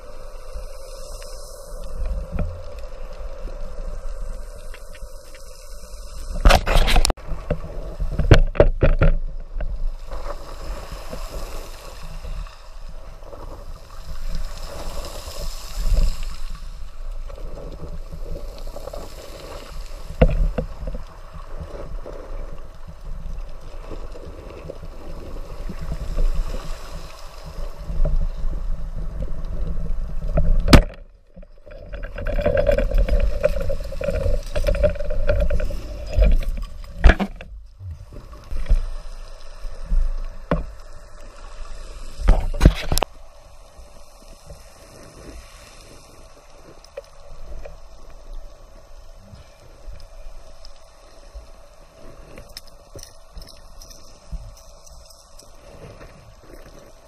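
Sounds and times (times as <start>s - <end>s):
muffled underwater water noise: 0.0s - 57.0s.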